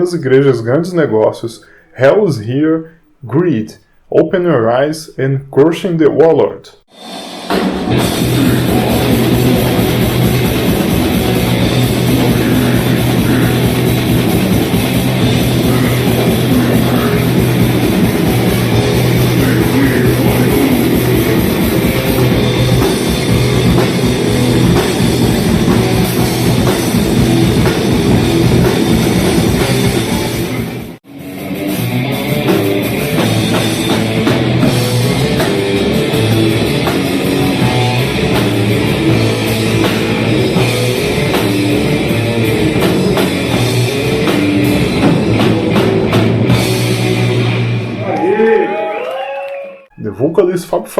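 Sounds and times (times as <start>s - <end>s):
drum kit: 6.9s - 48.0s
distorted electric guitars: 6.9s - 48.2s.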